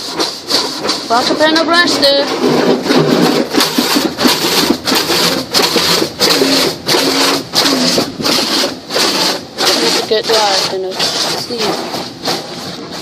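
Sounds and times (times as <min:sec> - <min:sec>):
car wash brushes swishing: 0:00.0 - 0:13.0.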